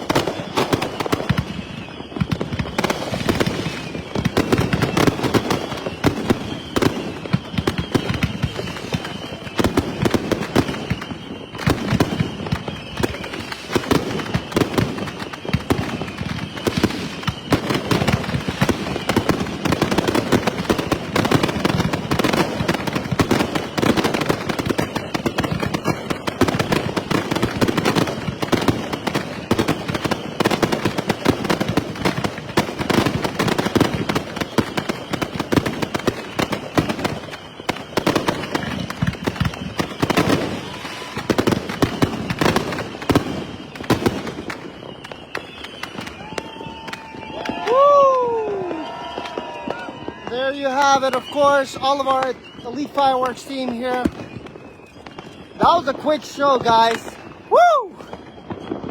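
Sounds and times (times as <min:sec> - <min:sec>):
firework bangs and crackles: 0:00.0 - 0:58.9.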